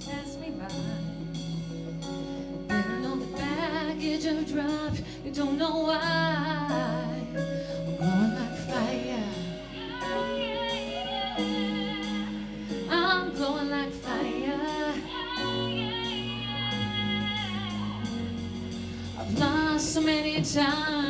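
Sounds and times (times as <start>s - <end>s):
bass notes: 0.0s - 21.0s
keyboard chords: 0.0s - 21.0s
woman's wordless vocals: 2.7s - 18.2s, 19.2s - 21.0s.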